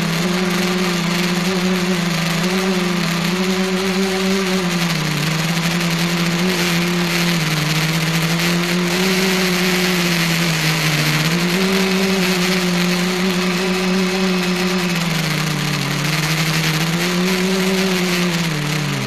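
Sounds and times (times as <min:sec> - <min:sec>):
drone motors humming: 0:00.0 - 0:19.0.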